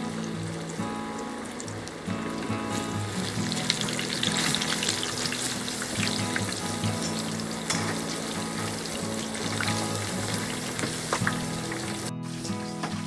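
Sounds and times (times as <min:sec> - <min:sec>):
background music: 0:00.0 - 0:13.0
water boiling hard in a pot: 0:00.0 - 0:13.0.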